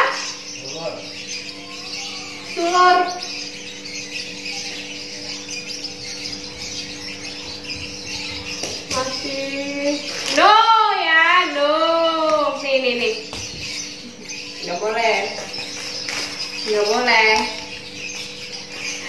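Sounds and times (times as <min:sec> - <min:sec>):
birds chirping: 0:00.0 - 0:19.0
steady low hum: 0:00.0 - 0:19.0.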